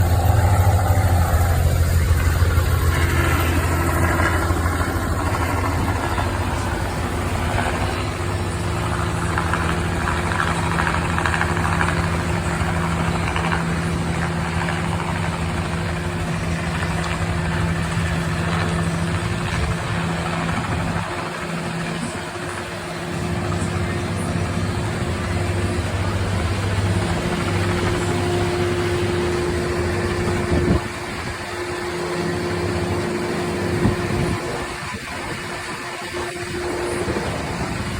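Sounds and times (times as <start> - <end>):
helicopter engine and rotor drone: 0.0 - 37.9.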